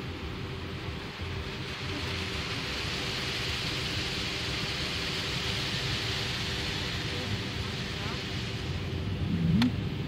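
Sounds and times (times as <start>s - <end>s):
car wash spraying water: 0.0s - 10.0s
low machine rumble: 0.0s - 10.0s.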